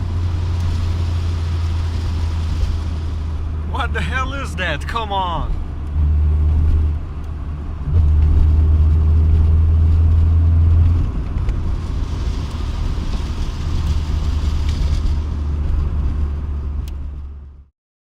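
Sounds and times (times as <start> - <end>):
car engine revving: 0.0 - 17.1.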